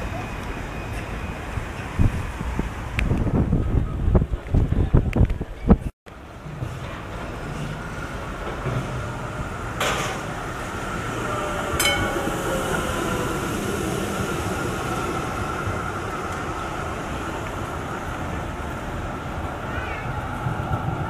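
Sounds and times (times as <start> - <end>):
tram rumbling along rails: 0.0 - 21.0.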